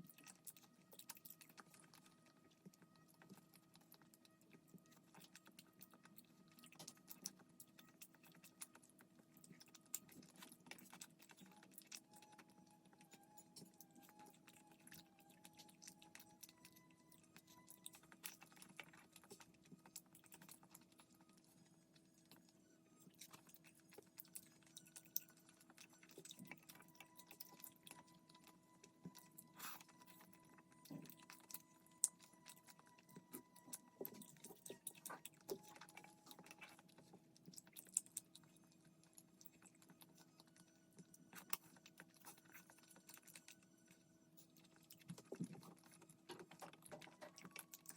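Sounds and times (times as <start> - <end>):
chewing and utensil clicks: 0.0 - 47.9.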